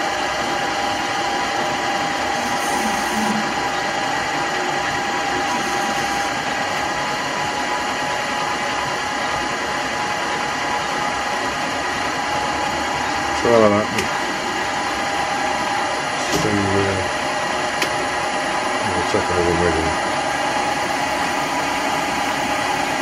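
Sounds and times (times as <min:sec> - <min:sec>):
gear train whine: 0:00.0 - 0:23.0
lathe running: 0:00.0 - 0:23.0.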